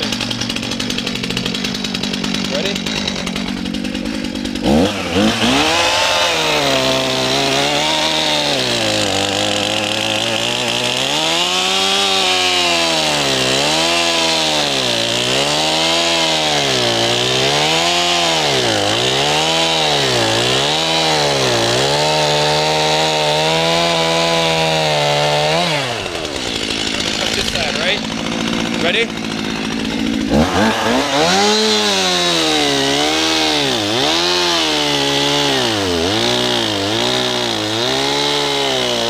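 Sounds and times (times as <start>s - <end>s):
chainsaw cutting into log: 0.0s - 39.0s.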